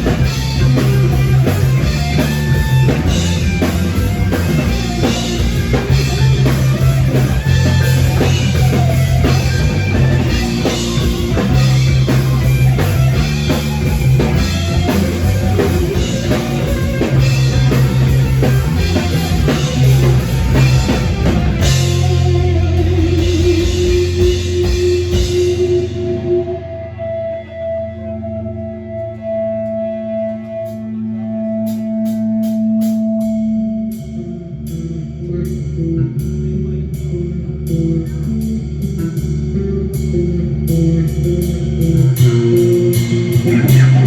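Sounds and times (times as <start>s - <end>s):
drum kit: 0.0s - 26.8s, 31.7s - 44.0s
bass guitar: 0.0s - 44.0s
electric guitar: 0.0s - 44.0s.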